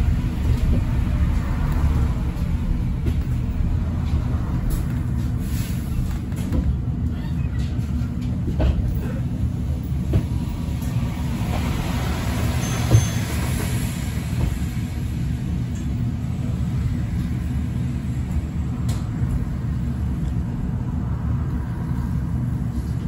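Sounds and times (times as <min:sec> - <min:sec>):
low rumble inside bus: 0:00.0 - 0:23.0.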